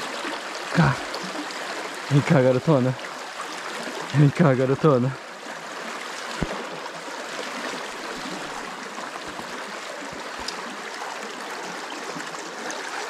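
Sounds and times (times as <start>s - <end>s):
river water rushing over boulders: 0.0s - 13.0s.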